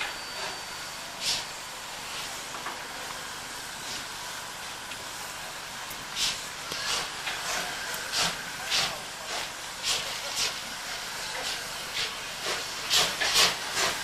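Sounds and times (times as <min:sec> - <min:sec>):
puffs of steam: 0:00.0 - 0:14.0
steam locomotive hissing: 0:00.0 - 0:14.0.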